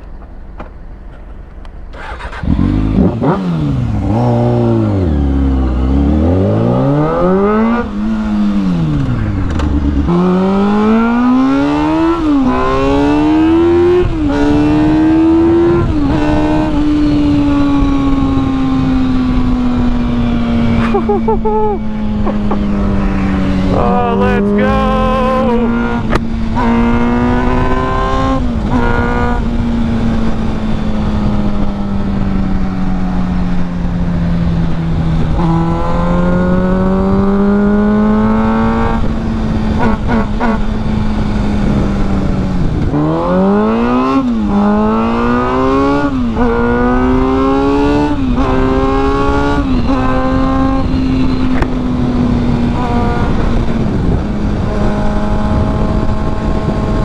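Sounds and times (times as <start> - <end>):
motorcycle engine accelerating: 0.0 - 24.1, 24.8 - 57.0.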